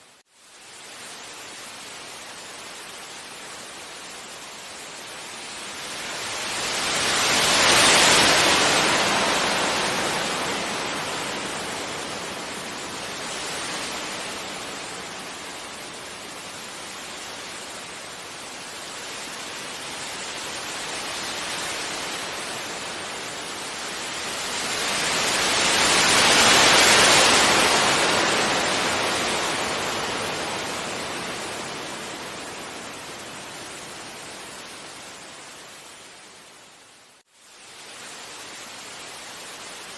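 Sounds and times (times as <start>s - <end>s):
sea waves breaking on beach: 1.1s - 35.6s.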